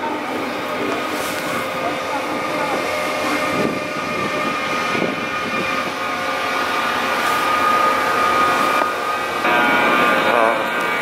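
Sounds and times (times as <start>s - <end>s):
electric locomotive whine: 0.0s - 11.0s
train running noise: 0.0s - 11.0s.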